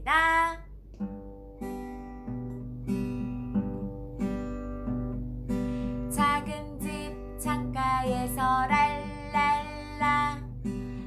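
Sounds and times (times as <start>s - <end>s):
acoustic guitar strumming chords: 0.3s - 11.0s.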